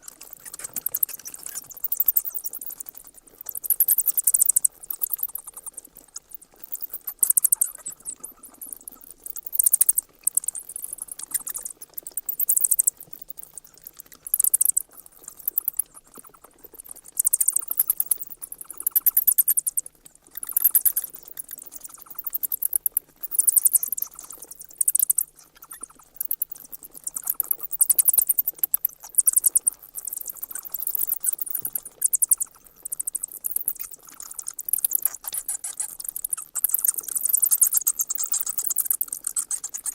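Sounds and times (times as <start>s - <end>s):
bats squeaking: 0.4s - 5.8s, 6.6s - 13.4s, 14.2s - 19.8s, 20.4s - 22.7s, 23.3s - 39.9s.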